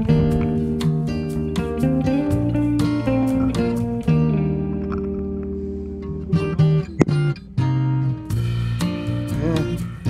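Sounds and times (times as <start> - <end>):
strummed guitar chords: 0.0 - 10.0.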